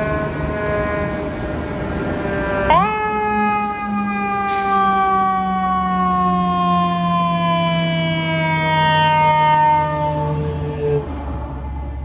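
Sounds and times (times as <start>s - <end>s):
mechanical siren wailing: 0.0s - 11.3s.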